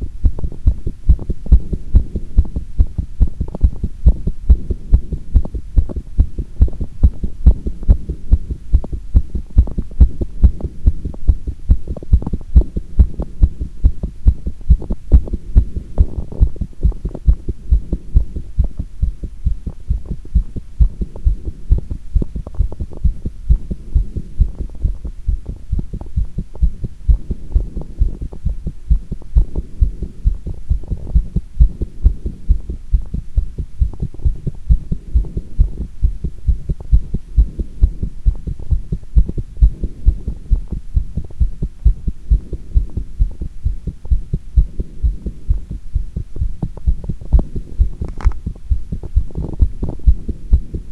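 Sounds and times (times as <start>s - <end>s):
heartbeat thumps: 0.0s - 50.9s.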